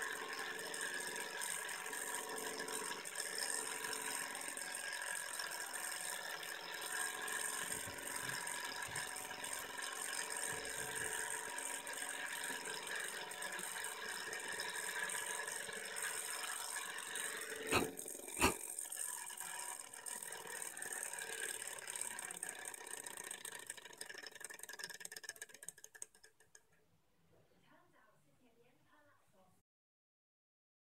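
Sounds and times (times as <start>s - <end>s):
engine flywheel rattling: 0.0s - 26.6s.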